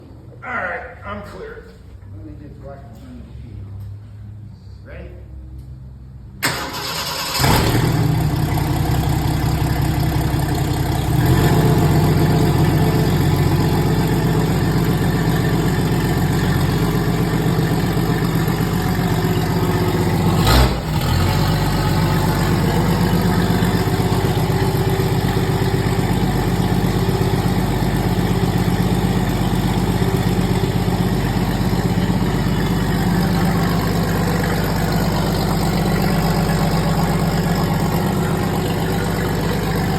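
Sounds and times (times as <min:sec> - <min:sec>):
car engine cranking and running: 0:06.4 - 0:39.9.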